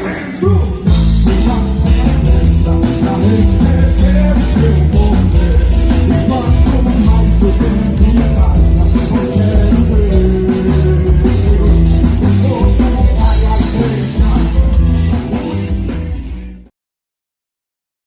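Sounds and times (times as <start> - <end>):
person singing: 0.0 - 16.4
bass guitar: 0.0 - 16.7
drums: 0.0 - 16.7
electric guitar: 0.0 - 16.7.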